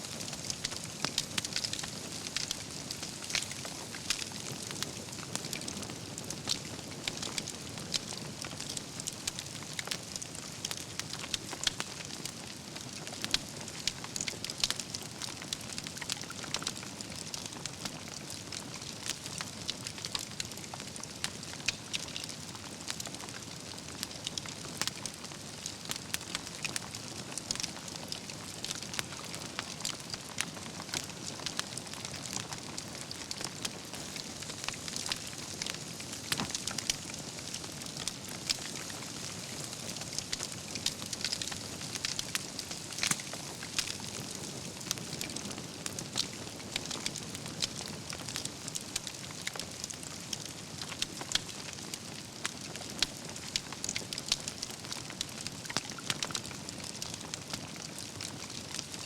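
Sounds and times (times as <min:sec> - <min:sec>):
campfire logs crackling: 0:00.1 - 0:58.9.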